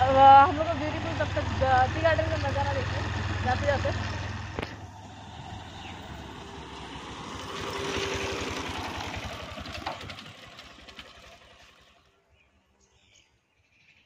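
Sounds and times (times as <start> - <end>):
motorcycle passing: 0.0 - 12.5.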